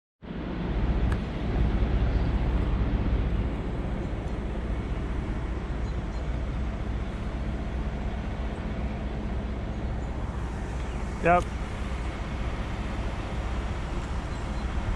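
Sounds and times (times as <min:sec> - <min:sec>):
diesel engine rumbling: 0:00.2 - 0:14.9.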